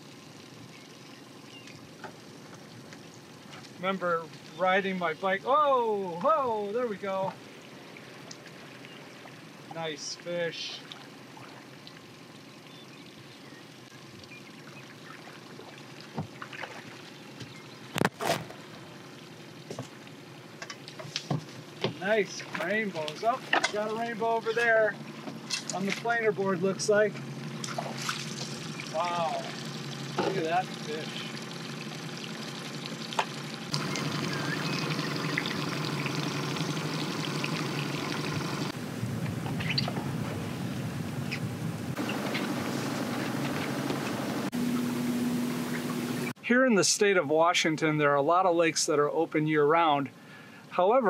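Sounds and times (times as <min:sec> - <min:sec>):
outboard motor humming: 0:00.0 - 0:46.4
water washing along hull: 0:02.3 - 0:46.3.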